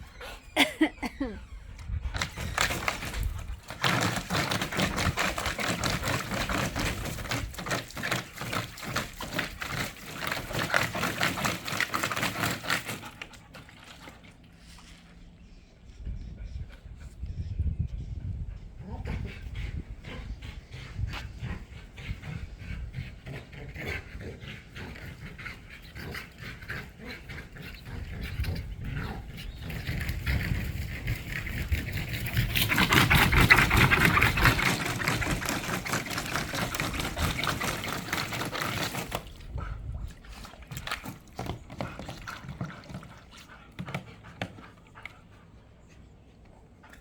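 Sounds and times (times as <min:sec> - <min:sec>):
dogs splashing in water: 0:02.1 - 0:15.2, 0:19.1 - 0:47.0.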